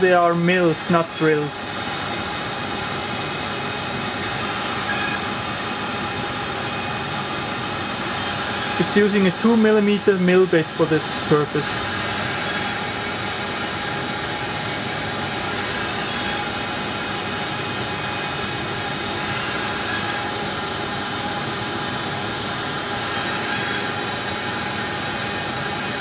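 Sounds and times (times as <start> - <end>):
milling spindle whining: 0.1 - 26.0.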